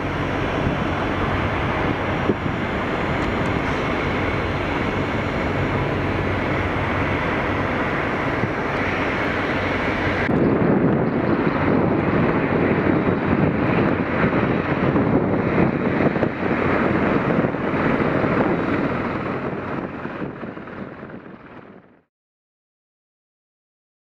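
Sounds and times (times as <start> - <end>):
helicopter rotors and engines: 0.0 - 22.1.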